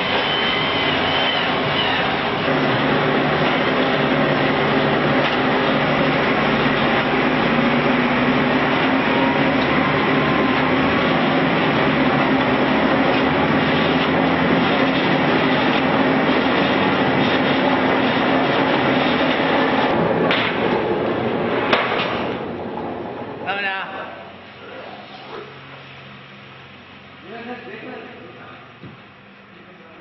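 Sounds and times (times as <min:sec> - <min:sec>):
electric motors humming: 0:00.0 - 0:30.0
machinery mechanical rumble: 0:00.0 - 0:30.0.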